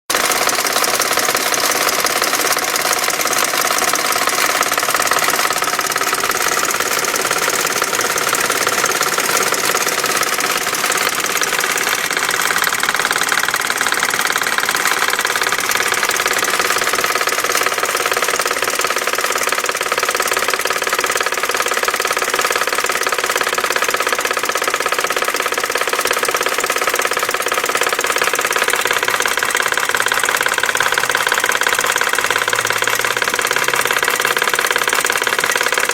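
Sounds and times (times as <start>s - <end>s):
engine knocking: 0.0s - 35.9s
car engine idling: 0.1s - 35.9s.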